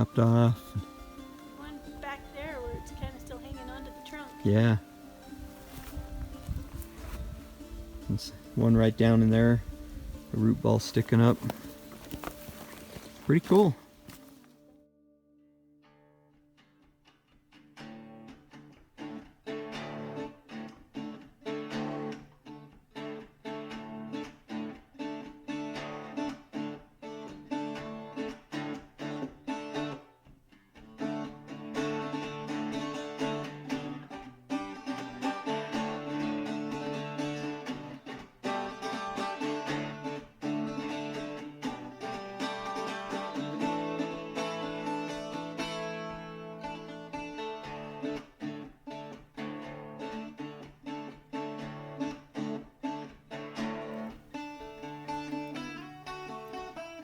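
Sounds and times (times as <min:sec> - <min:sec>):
plucked strings background music: 0:00.0 - 0:57.0.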